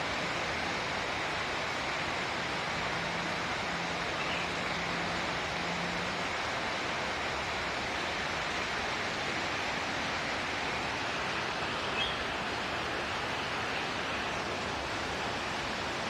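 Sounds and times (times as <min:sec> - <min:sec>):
rush of falling water: 0:00.0 - 0:16.0.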